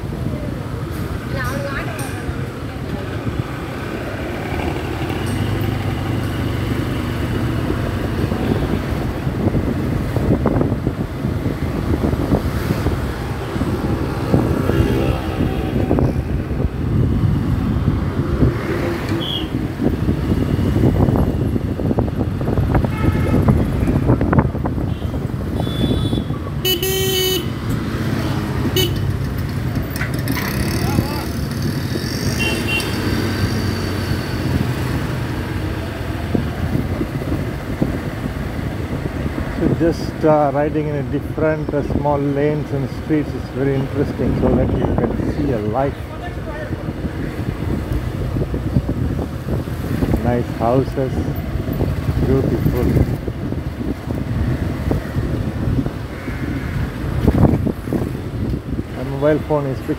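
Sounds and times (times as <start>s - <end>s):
wind buffeting microphone: 5.8s - 26.6s, 27.5s - 59.9s.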